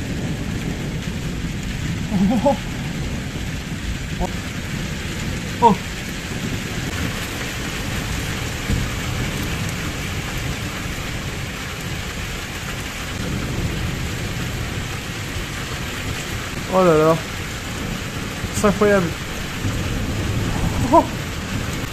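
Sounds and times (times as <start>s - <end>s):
heavy rain falling: 0.0s - 21.9s
thunder rumbling: 0.0s - 21.9s.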